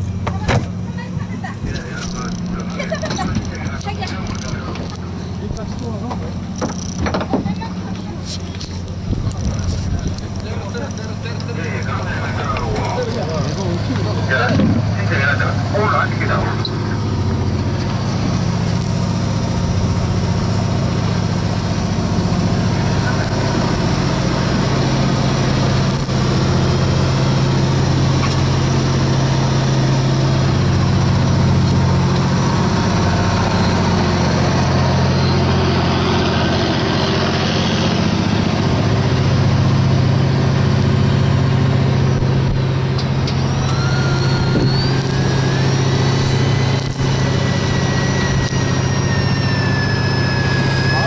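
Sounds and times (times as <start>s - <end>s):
boat engine humming: 0.0s - 51.0s
thin rising whine: 8.6s - 51.0s.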